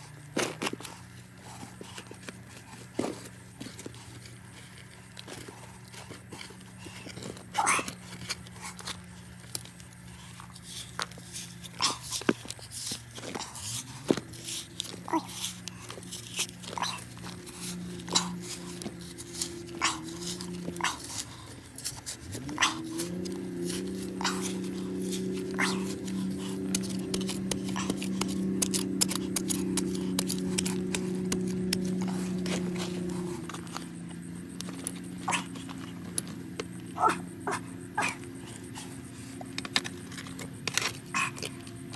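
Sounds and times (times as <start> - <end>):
hand shovel scraping gritty soil: 0.0 - 41.9
steady low hum: 0.0 - 41.9.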